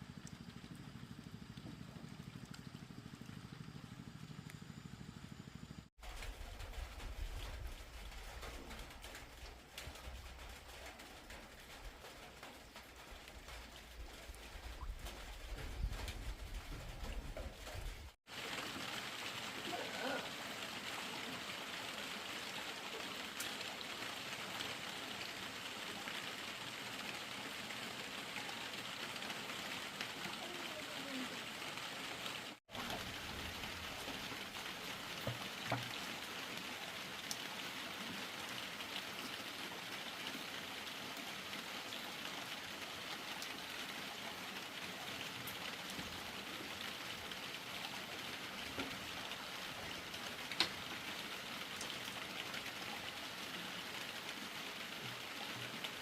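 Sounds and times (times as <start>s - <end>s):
steady rain hiss: 6.0s - 56.0s.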